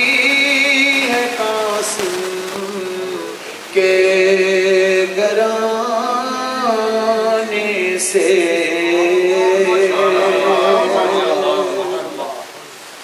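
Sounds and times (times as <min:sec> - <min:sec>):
man singing into a microphone: 0:00.0 - 0:12.2.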